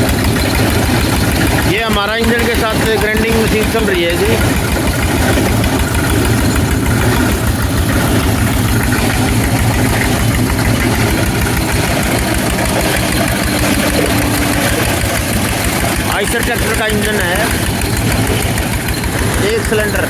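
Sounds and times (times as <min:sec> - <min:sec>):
diesel engine thudding: 0:00.0 - 0:20.0.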